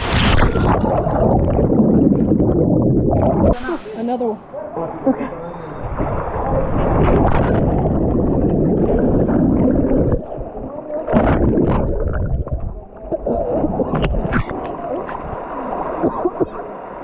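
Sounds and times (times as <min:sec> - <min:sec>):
water rushing and gurgling: 0:00.0 - 0:17.0.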